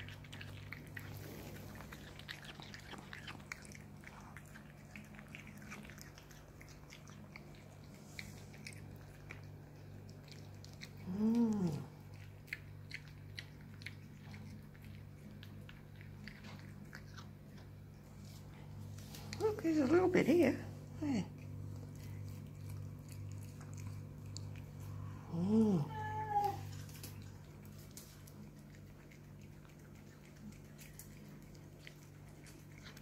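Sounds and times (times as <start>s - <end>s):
cat chewing fish: 0.0s - 25.6s, 26.7s - 33.0s
faint steady hum: 0.0s - 33.0s.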